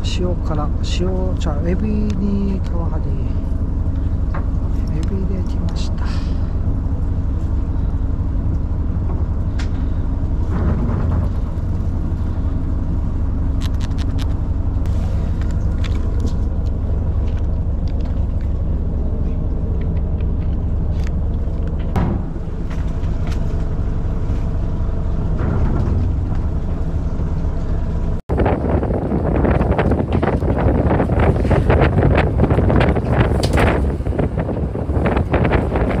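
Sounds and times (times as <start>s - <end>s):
boat engine running: 0.0s - 36.0s
wind buffeting microphone: 1.4s - 36.0s.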